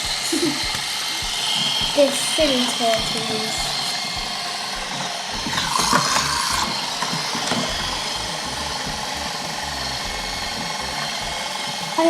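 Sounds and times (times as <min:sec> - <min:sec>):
toy gear motors whirring: 0:00.0 - 0:12.0.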